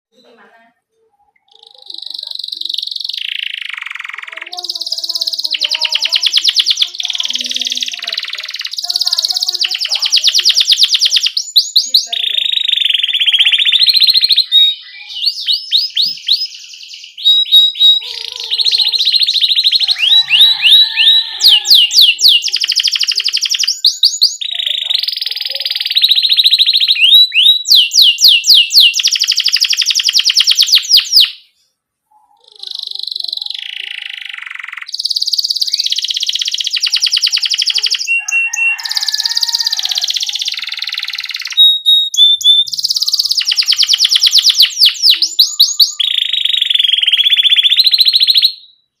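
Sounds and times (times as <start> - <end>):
canary singing trills: 0.1 - 49.0.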